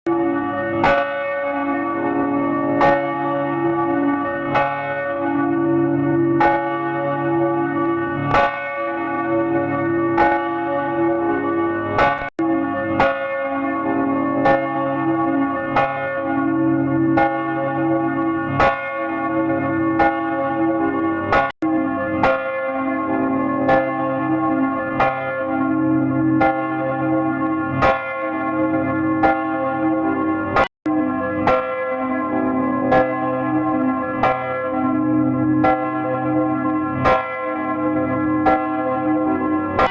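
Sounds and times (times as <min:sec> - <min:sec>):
church bell tolling: 0:00.1 - 0:39.9.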